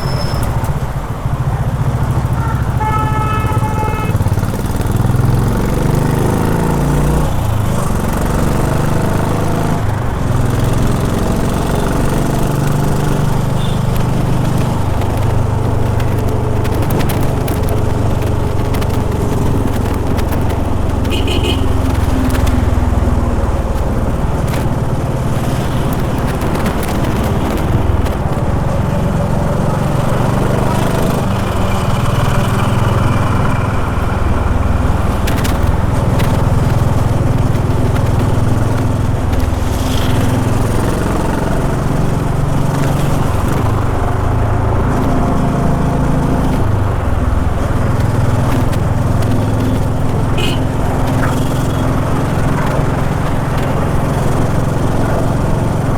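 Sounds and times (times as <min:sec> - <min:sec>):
motorcycle engine running: 0:00.0 - 0:55.9
road noise: 0:00.0 - 0:55.9
wind: 0:00.0 - 0:55.9.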